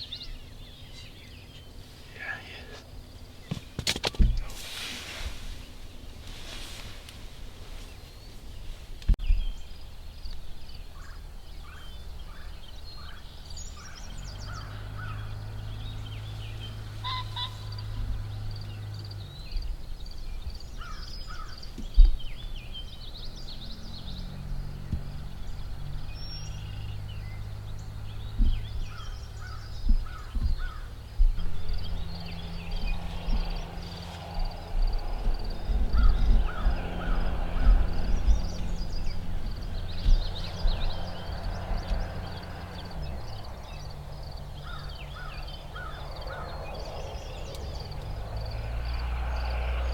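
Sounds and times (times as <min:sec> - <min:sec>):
songbirds chirping and trilling: 0:00.0 - 0:49.9.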